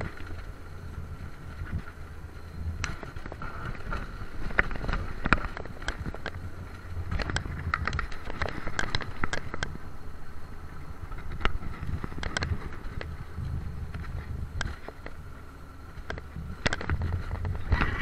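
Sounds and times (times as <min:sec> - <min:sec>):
faint steady whine: 0:00.0 - 0:18.0
sled wheels rumbling on rail: 0:00.0 - 0:18.0.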